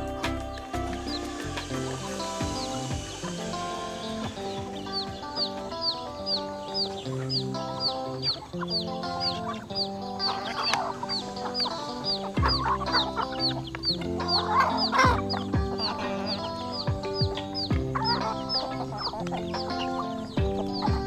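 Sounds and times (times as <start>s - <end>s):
background music with held notes: 0.0s - 21.0s
chickens clucking: 0.0s - 21.0s.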